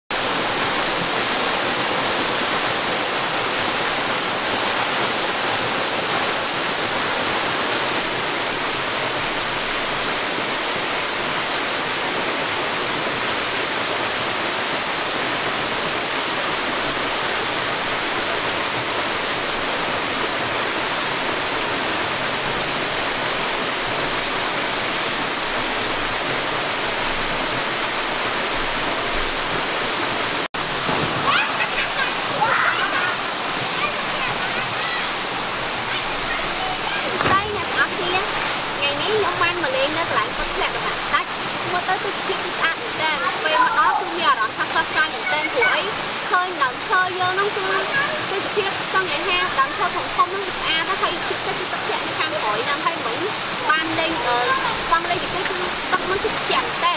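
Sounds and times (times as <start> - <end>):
waterfall rushing: 0.1 - 56.9.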